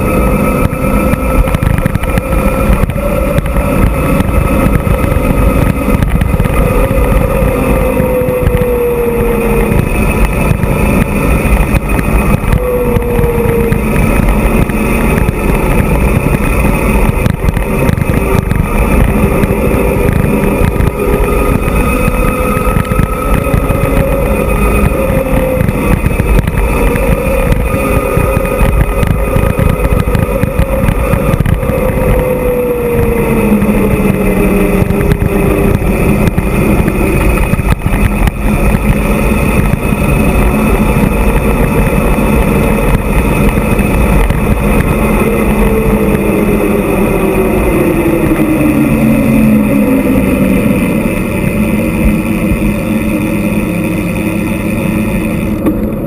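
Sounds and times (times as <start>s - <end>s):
humming tone: 0.0s - 56.0s
wind rushing over microphone: 0.0s - 56.0s.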